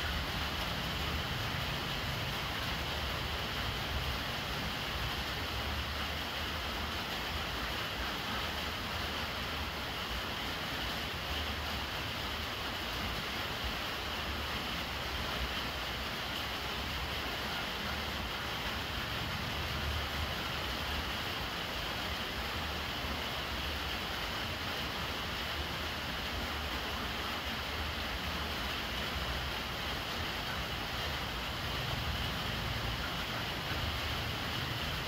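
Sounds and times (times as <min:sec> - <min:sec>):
rain splashing on water: 0:00.0 - 0:35.0.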